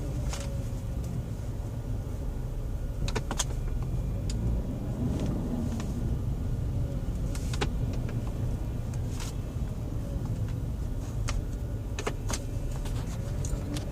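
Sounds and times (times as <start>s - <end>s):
car engine low hum: 0.0s - 13.9s.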